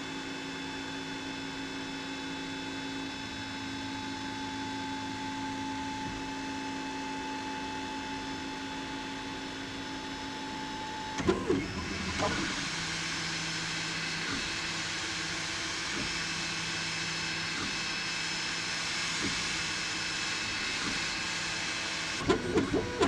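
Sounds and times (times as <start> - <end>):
three-d printer humming and whining: 0.0 - 23.0.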